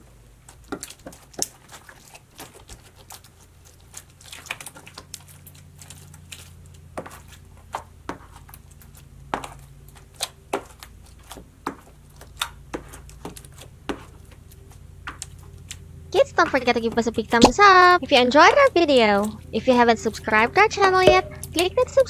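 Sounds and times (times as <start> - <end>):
slime squishing by hand: 0.0 - 22.0.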